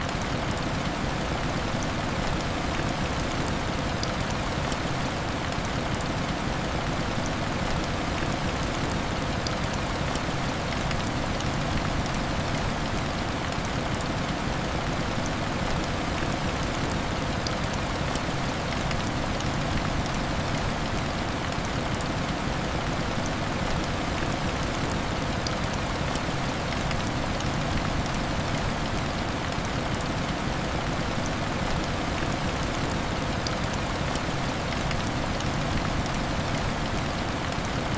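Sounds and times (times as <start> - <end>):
heavy rain on window glass: 0.0 - 37.9.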